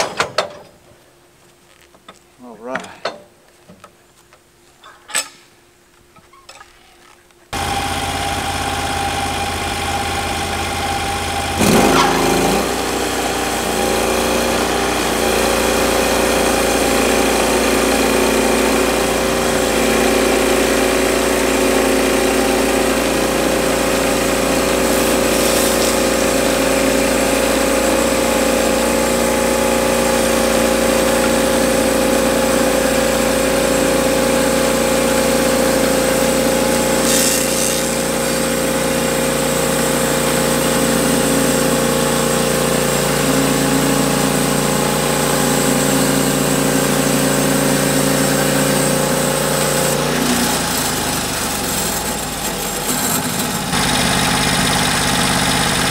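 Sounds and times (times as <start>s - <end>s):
bandsaw mill cutting log: 7.6s - 55.9s.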